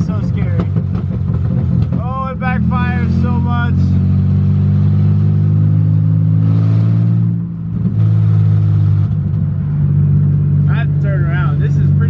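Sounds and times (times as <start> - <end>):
car engine running inside cabin: 0.0 - 12.0.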